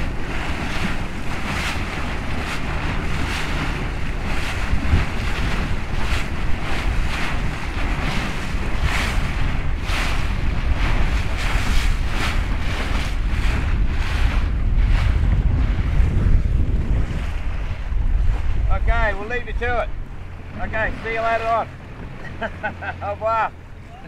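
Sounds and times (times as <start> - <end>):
sea splashing against boat hull: 0.0 - 24.0
wind buffeting microphone: 0.0 - 24.0.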